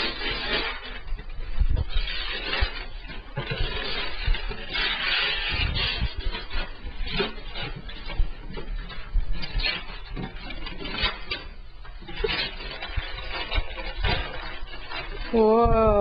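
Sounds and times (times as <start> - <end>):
wrapping paper rustling and tearing: 0.0 - 16.0.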